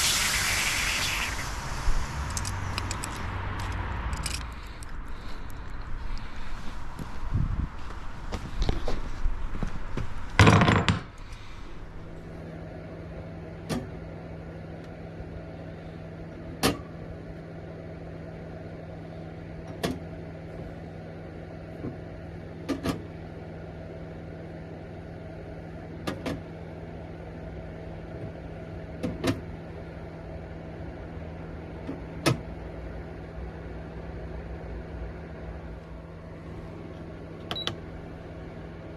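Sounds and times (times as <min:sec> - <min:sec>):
furnace humming: 0:00.0 - 0:38.9.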